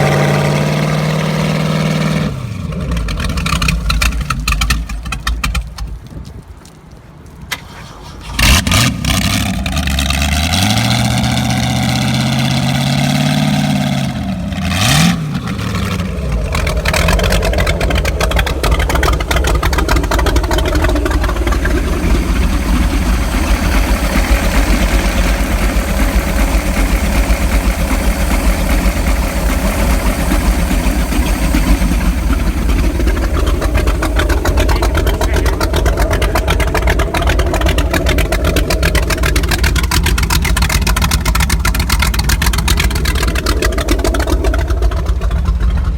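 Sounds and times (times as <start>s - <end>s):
car engine starting and revving: 0.0s - 5.6s, 7.5s - 45.9s.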